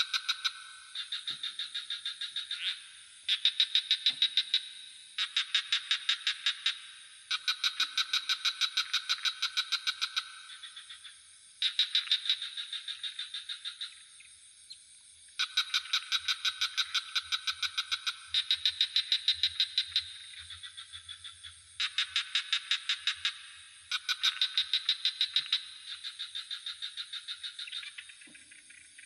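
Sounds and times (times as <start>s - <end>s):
frogs trilling in chorus: 0.0s - 29.0s
high insect drone: 0.0s - 29.0s.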